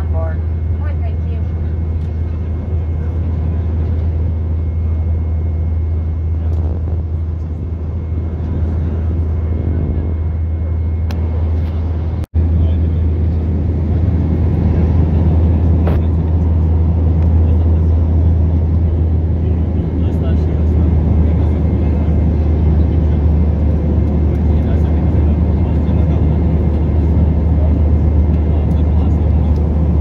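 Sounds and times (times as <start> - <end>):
jet engine drone: 0.0 - 30.0.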